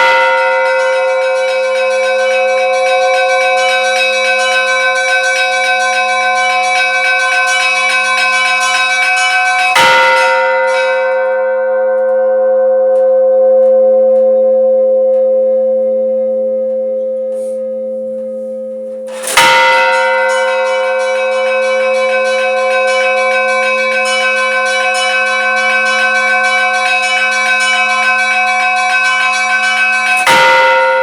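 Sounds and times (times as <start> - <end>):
large church bell ringing: 0.0 - 31.0.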